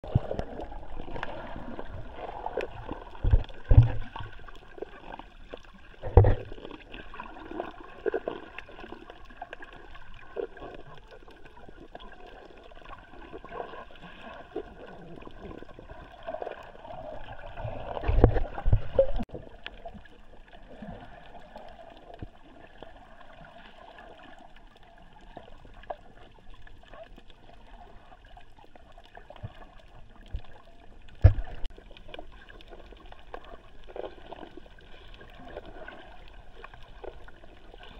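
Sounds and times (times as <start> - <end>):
churning water underwater: 0.0 - 37.9.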